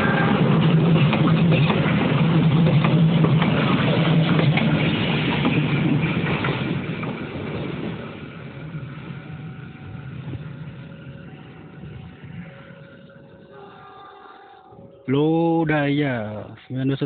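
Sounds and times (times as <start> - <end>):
train wheels rumbling over rails: 0.0 - 14.9.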